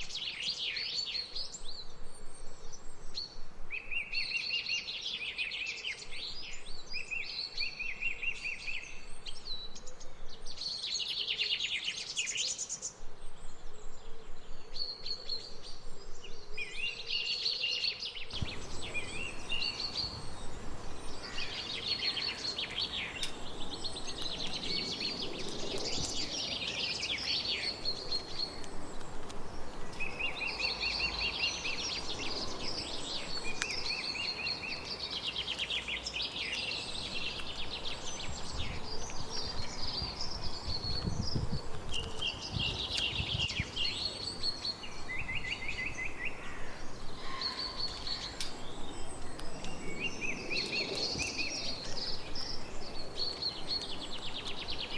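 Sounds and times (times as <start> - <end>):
background hiss: 0.0 - 54.9
songbirds singing: 0.0 - 54.9.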